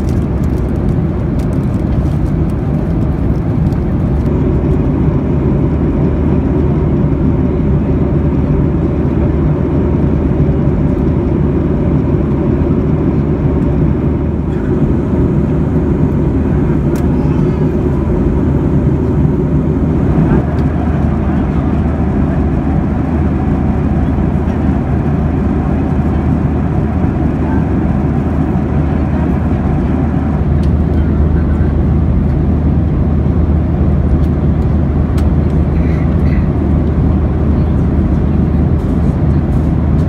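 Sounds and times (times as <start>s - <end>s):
air rushing along fuselage: 0.0s - 40.0s
jet engine drone in cabin: 0.0s - 40.0s.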